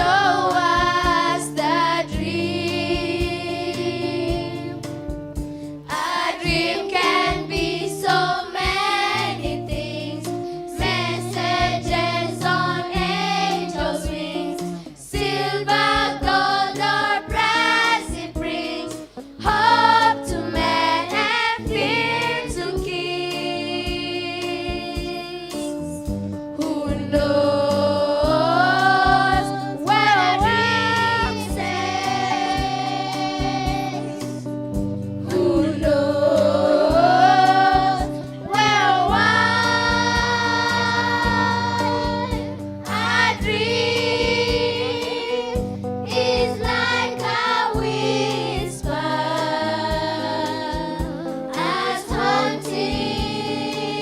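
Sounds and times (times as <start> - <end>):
choir singing: 0.0 - 4.8, 5.9 - 25.6, 26.8 - 34.4, 35.2 - 54.0
musical accompaniment: 0.0 - 54.0.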